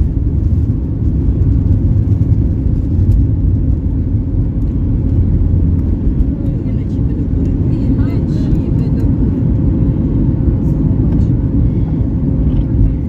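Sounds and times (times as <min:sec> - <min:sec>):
jet engines and wheels rumbling: 0:00.0 - 0:13.0.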